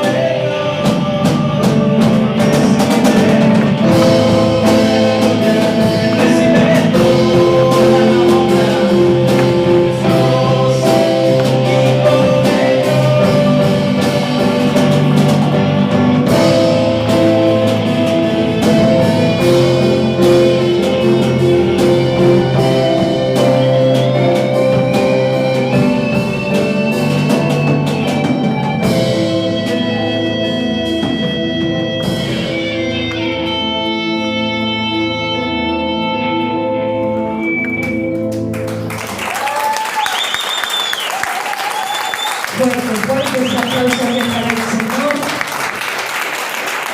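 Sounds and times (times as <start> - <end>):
band music with guitar and drums: 0.0 - 46.1.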